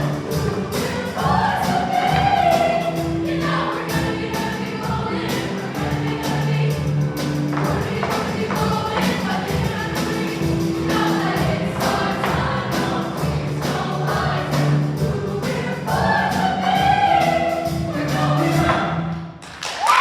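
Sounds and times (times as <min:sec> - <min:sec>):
accompaniment with steady beat: 0:00.0 - 0:18.9
choir singing in parts: 0:00.0 - 0:19.1.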